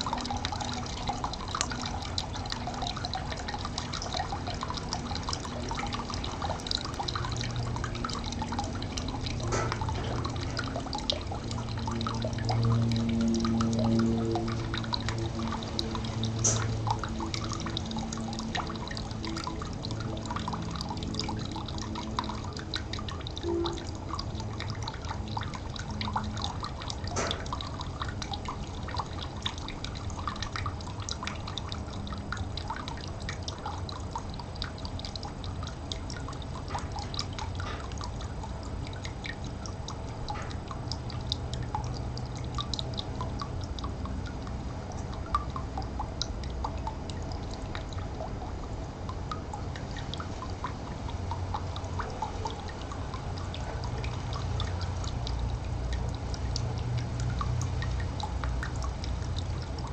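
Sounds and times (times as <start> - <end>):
low steady hum: 0.0 - 59.9
stream water trickling: 0.0 - 59.9.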